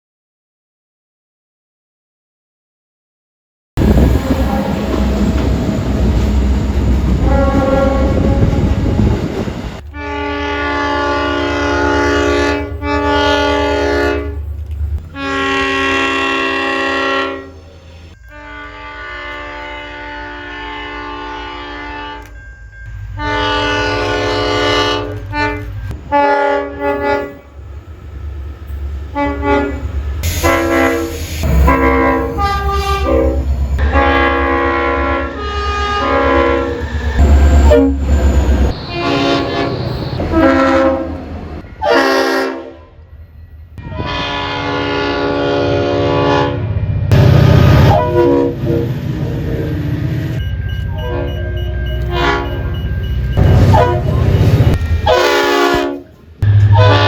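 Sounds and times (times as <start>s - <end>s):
train horns blasting: 3.8s - 27.7s, 29.1s - 43.0s, 43.8s - 57.0s
rumble of moving trains: 3.8s - 57.0s.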